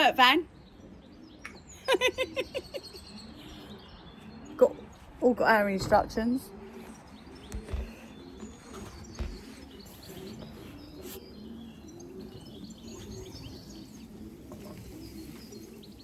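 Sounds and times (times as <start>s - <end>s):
pigeons cooing: 0.0s - 16.0s
songbirds chirping: 0.0s - 16.0s.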